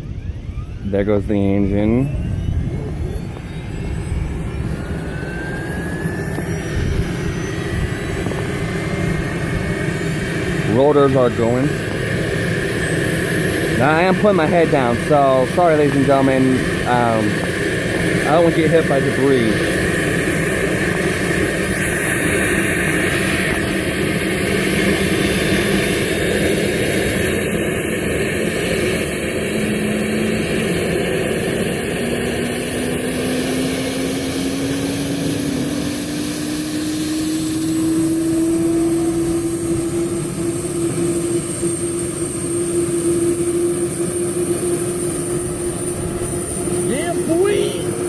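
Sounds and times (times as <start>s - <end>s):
helicopter engine and rotors: 0.0s - 48.0s
rising turbine whine: 0.0s - 48.0s.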